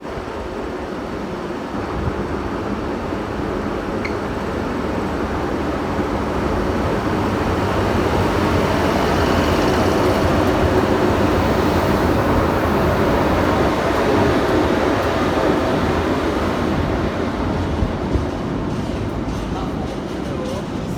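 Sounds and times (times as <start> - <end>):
train rumbling: 0.0 - 20.9.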